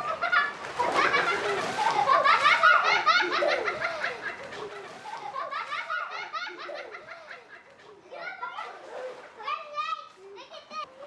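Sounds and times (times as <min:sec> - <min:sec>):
children laughing: 0:00.0 - 0:11.0.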